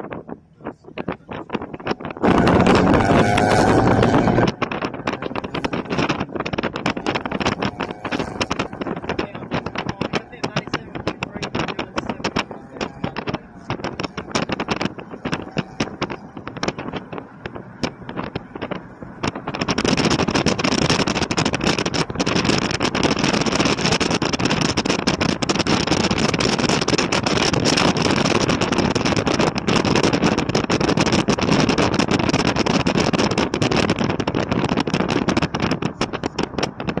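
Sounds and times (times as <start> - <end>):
vehicle road noise: 0.0 - 37.0
wind buffeting microphone: 0.0 - 37.0.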